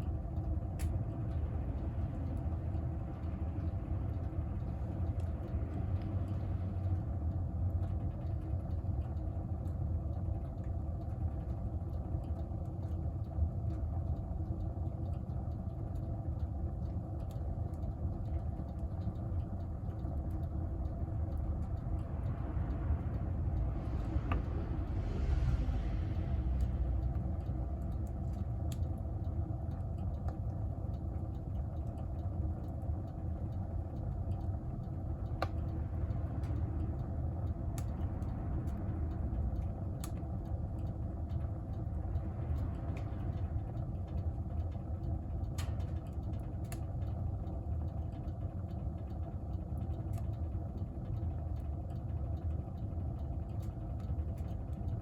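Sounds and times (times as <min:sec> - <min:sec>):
stove fire roaring: 0:00.0 - 0:55.0.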